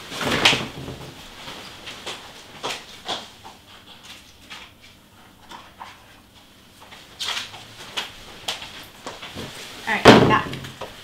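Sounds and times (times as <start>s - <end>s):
soft clicks and rustles: 0.0s - 11.0s.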